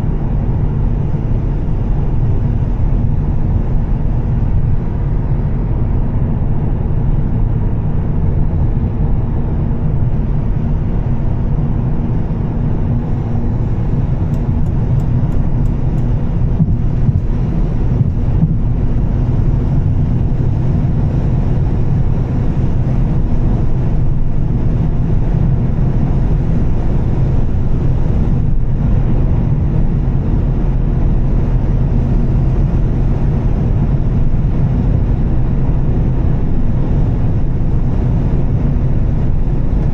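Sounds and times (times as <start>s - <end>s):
car engine cruising: 0.0s - 39.9s
tyres rumbling on wet road: 0.0s - 39.9s.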